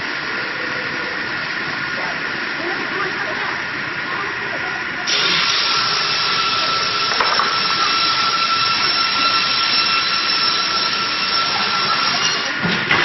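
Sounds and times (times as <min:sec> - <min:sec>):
sawmill hiss and whine: 0:00.0 - 0:12.7.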